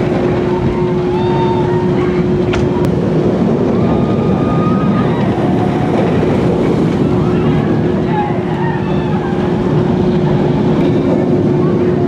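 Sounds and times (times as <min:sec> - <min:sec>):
faint voices: 0:00.0 - 0:02.9, 0:03.6 - 0:12.0
roller coaster train rumbling: 0:00.0 - 0:12.0
wind buffeting microphone: 0:00.0 - 0:12.0.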